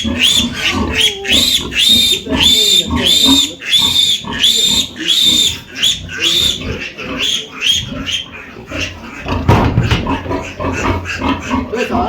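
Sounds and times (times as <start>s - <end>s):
pigs squealing: 0.0s - 12.0s.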